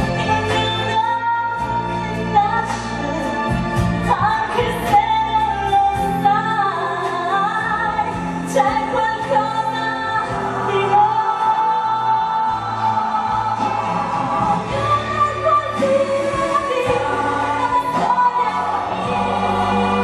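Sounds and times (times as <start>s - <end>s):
musical accompaniment: 0.0s - 20.0s
woman singing: 0.0s - 20.0s.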